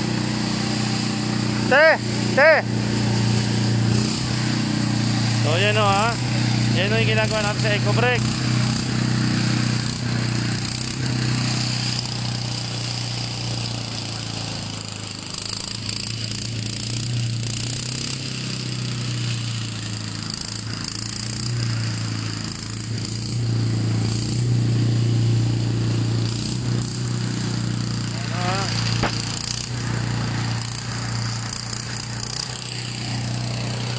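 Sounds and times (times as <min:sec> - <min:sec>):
small engine drone: 0:00.0 - 0:33.9.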